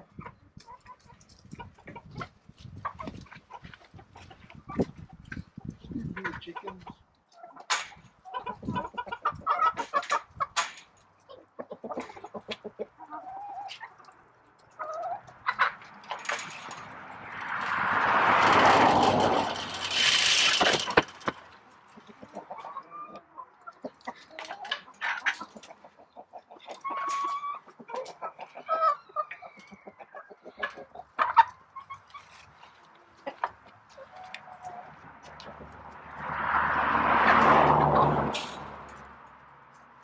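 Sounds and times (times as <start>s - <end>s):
chickens clucking: 0.0s - 39.1s.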